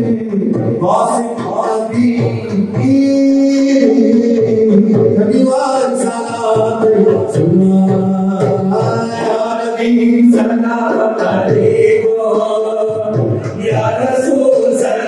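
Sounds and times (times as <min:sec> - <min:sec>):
men chanting a devotional song: 0:00.0 - 0:15.0.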